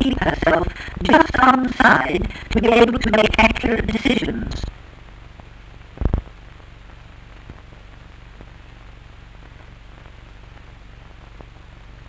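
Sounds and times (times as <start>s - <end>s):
faint crackles: 0.0s - 12.0s
film soundtrack hiss: 0.0s - 12.0s
low hum: 0.0s - 12.0s.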